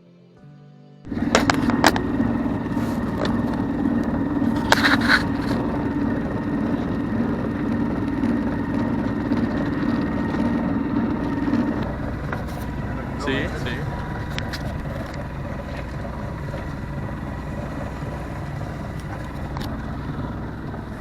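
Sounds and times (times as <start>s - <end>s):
faint music: 0.0s - 21.0s
boat engine running: 1.1s - 21.0s.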